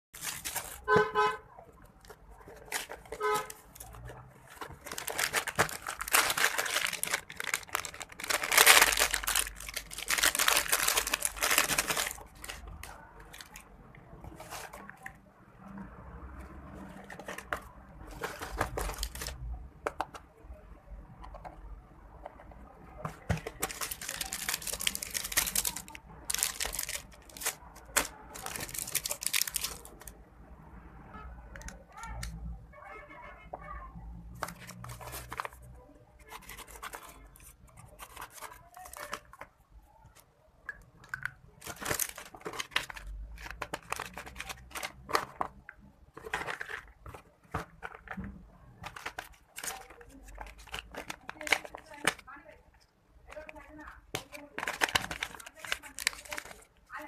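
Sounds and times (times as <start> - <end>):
rustling and crinkling: 0.2 - 15.2, 16.7 - 19.4, 22.2 - 30.2, 34.3 - 40.3, 41.2 - 57.0.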